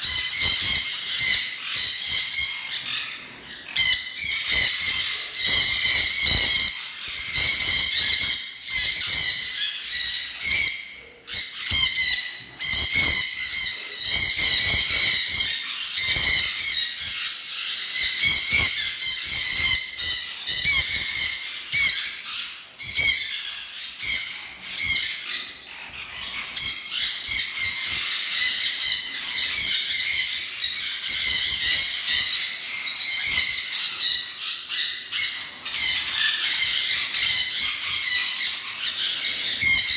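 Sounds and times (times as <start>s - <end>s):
birds squawking and chirping: 0.0s - 39.9s.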